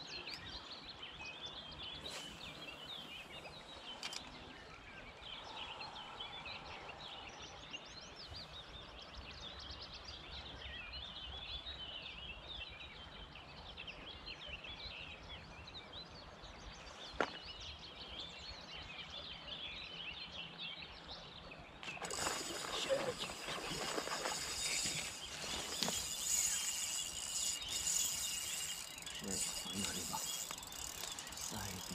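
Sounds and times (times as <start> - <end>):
songbirds chirping and trilling: 0.0 - 31.9.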